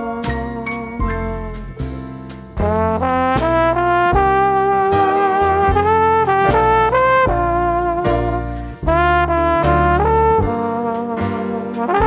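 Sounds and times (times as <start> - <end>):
brass music with bass line: 0.0 - 12.0.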